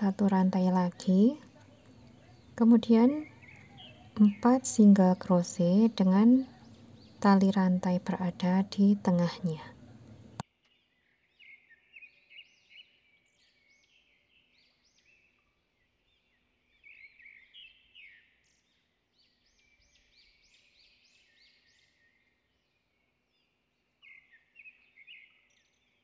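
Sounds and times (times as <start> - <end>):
faint bird chirping: 0.0 - 26.0.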